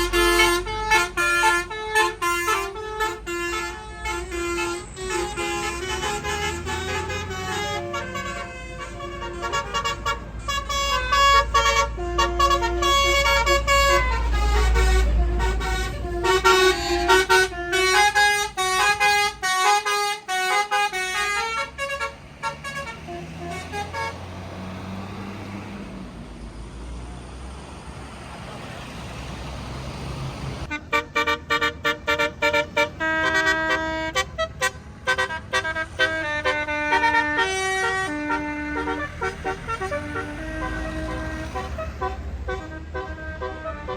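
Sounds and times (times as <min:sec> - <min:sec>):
musical bus horn: 0:00.0 - 0:25.8, 0:30.2 - 0:43.9
bus engine rumble: 0:00.0 - 0:43.9
road noise: 0:00.0 - 0:43.9.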